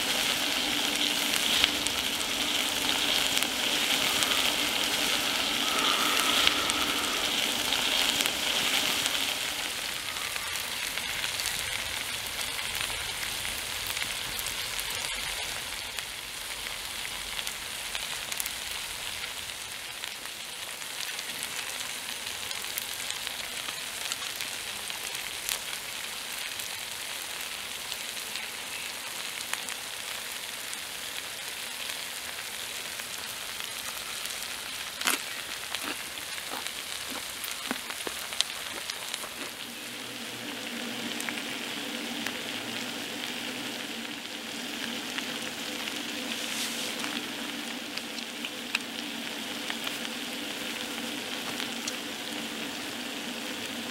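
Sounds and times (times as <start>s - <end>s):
food sizzling in a skillet: 0.0s - 53.9s.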